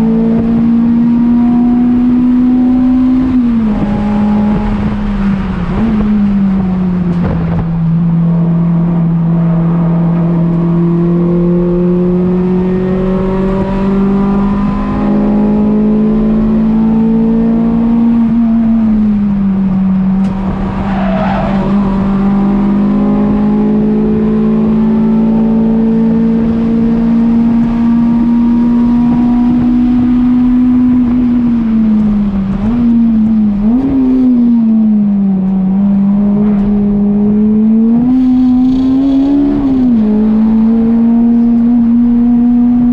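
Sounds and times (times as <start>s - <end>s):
car engine running hard: 0.0s - 42.9s.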